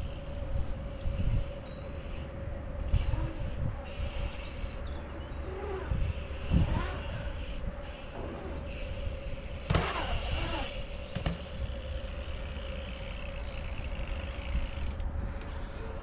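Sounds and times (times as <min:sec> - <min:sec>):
bike tyres rolling on concrete: 0:00.0 - 0:16.0
faint steady hum: 0:00.0 - 0:16.0
wind on microphone: 0:00.0 - 0:16.0.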